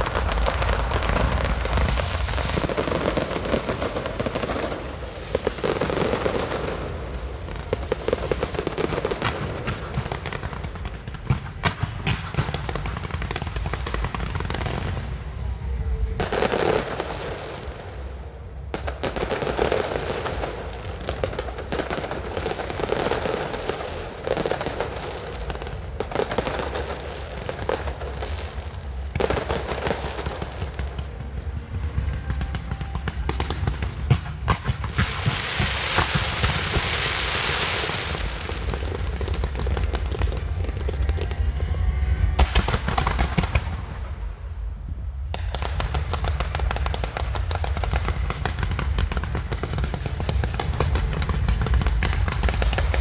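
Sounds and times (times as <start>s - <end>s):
firework shell bursts and crackling: 0.0s - 15.1s, 16.2s - 44.1s, 45.2s - 53.0s
steady low rumble: 0.0s - 53.0s.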